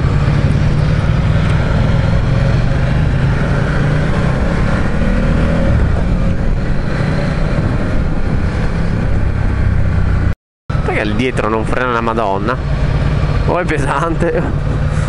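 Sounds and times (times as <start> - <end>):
motorcycle engine at low speed: 0.0 - 15.0.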